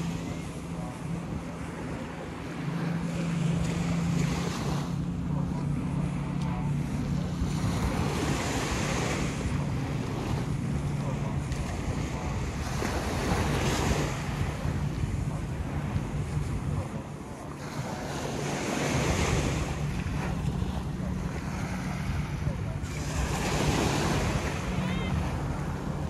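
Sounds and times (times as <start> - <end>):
small waves breaking on shore: 0.0 - 26.0
steady low hum: 0.0 - 26.0
wind buffeting microphone: 0.0 - 26.0.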